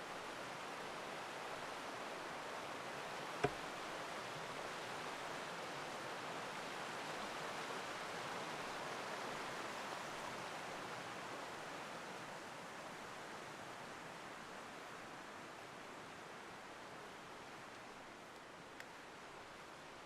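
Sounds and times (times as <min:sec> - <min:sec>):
stream flowing over rocks: 0:00.1 - 0:20.0.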